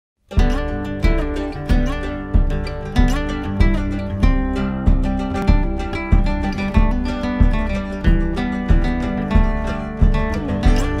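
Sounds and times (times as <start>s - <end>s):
background music with strong beat: 0.3s - 11.0s.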